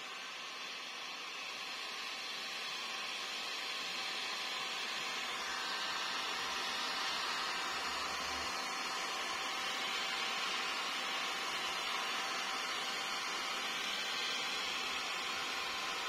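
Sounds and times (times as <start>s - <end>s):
hair dryer blowing air: 0.0s - 16.0s.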